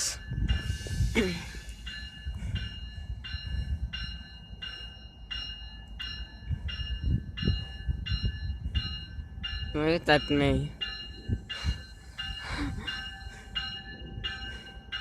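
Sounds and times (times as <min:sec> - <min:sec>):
electronic railroad bell ringing: 0:00.0 - 0:15.0
train moving: 0:00.0 - 0:15.0.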